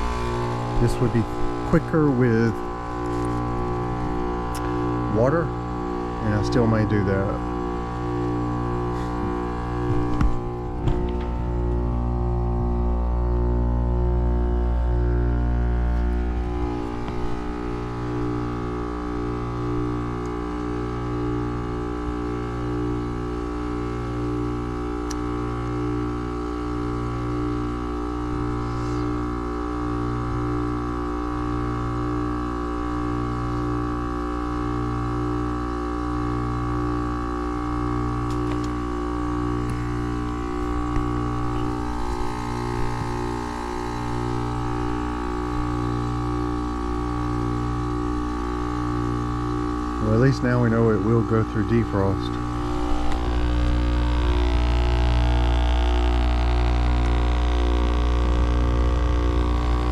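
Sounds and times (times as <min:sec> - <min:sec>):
heat pump humming: 0:00.0 - 0:59.9.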